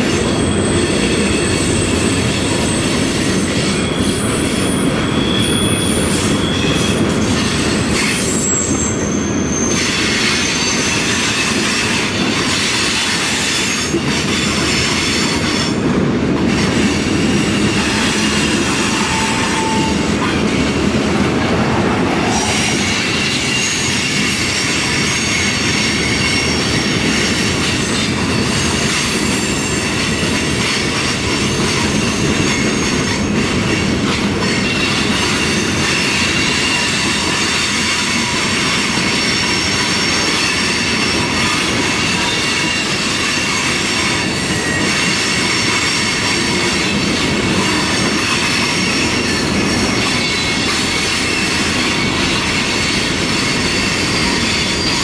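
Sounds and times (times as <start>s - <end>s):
steel wheels rumbling on rails: 0.0s - 55.0s
wheels squealing against rail: 0.0s - 55.0s.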